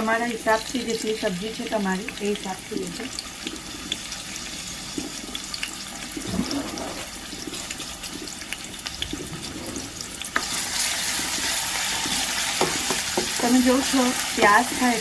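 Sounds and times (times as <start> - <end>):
onions sizzling in a pan: 0.0 - 15.0.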